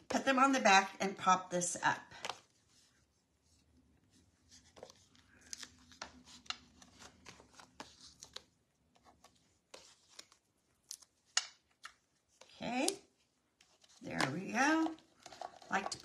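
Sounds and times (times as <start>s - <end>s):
soft paper clicks and rustles: 2.1s - 16.0s.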